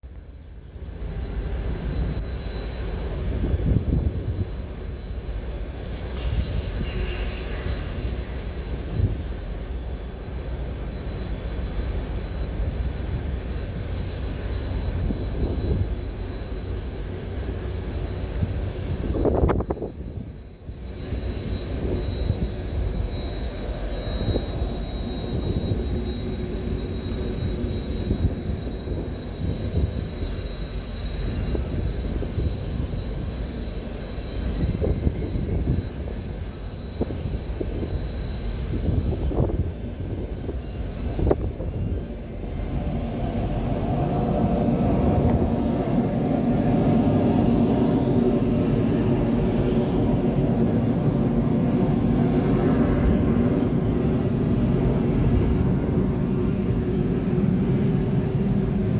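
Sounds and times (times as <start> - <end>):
jet engines rumbling and whining: 0.0 - 58.9.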